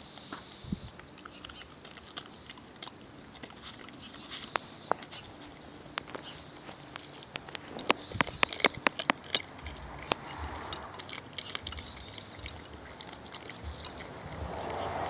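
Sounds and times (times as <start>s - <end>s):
puppy chewing bone: 0.0s - 15.0s.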